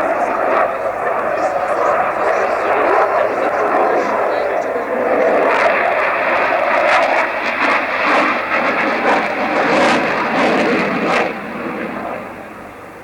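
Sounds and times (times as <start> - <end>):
fighter jet noise: 0.0 - 13.0.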